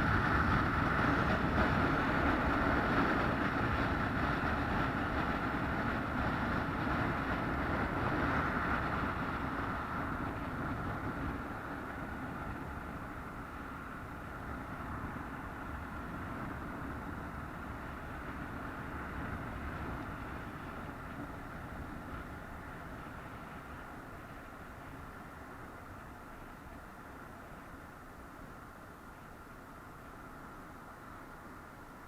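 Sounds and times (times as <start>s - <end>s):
moving vehicle rumble: 0.0s - 32.0s.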